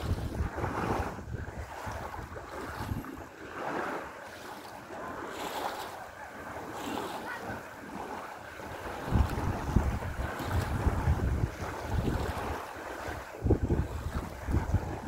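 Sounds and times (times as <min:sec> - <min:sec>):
light breeze: 0:00.0 - 0:15.0
waves washing on pebbles: 0:00.0 - 0:15.0.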